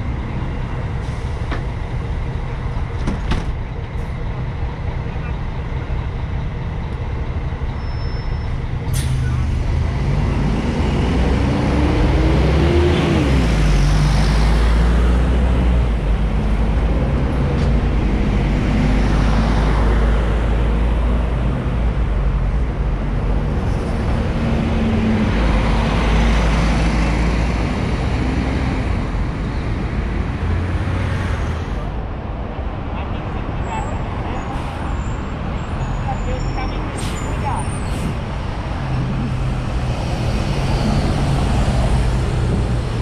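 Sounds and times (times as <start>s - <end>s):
bus diesel engine pulling away: 0.0s - 32.0s, 34.0s - 43.0s
traffic rumble: 0.0s - 43.0s.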